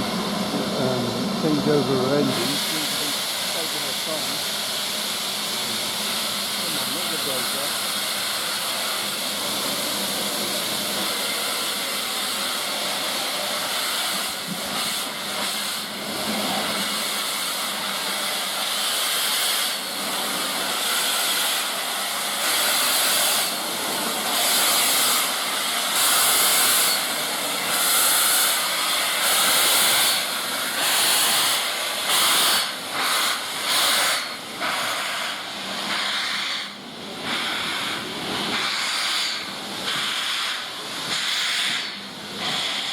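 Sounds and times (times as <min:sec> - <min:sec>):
steam locomotive hissing: 0:00.0 - 0:42.9.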